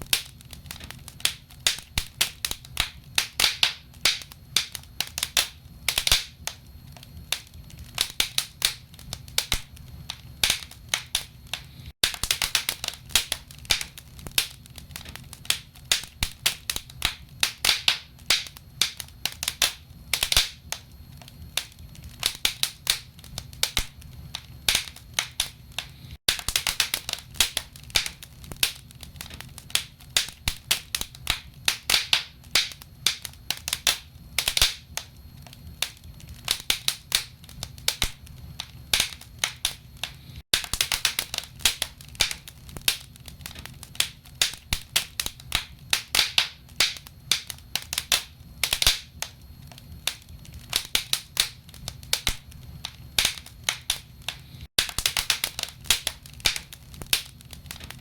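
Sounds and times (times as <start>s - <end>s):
logs crackling and popping in fire: 0.0s - 58.0s.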